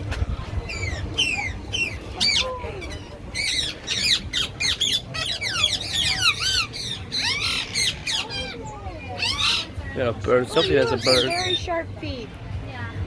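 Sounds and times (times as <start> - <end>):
birds squawking and screeching: 0.0 - 12.2.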